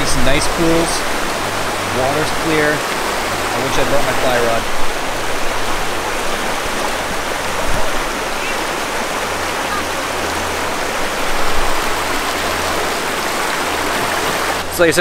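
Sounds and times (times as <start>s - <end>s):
river rushing over rapids: 0.0s - 15.0s.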